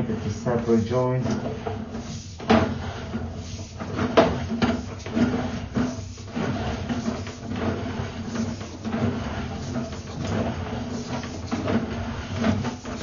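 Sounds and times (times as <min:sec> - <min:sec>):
cable knocking and rattling in pipe: 0:00.0 - 0:13.0
steady low hum: 0:00.0 - 0:13.0.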